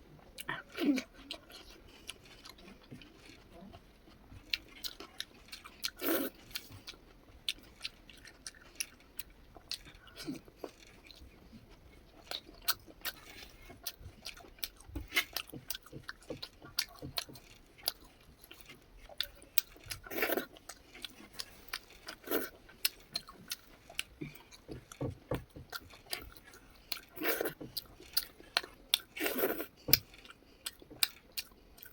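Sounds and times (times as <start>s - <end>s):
chewing and eating: 0.0s - 31.9s.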